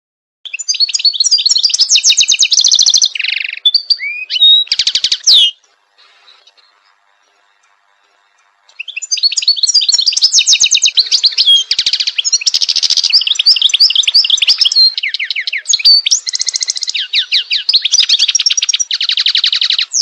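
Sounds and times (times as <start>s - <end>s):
finch singing trills and chirps: 0.5s - 20.0s.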